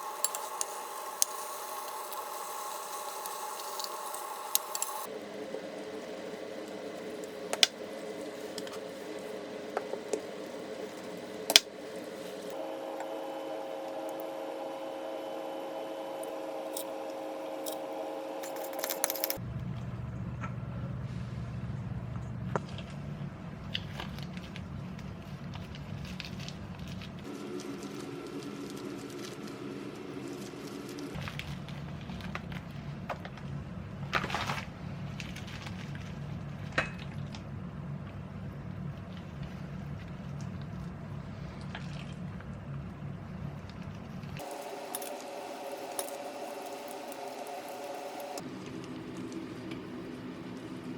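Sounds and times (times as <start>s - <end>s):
steady mechanical hum: 0.0s - 50.9s.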